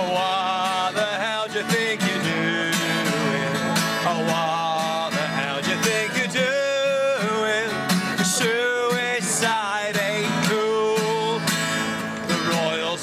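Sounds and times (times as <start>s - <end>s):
man singing folk song: 0.0s - 13.0s
strummed acoustic guitar: 0.0s - 13.0s.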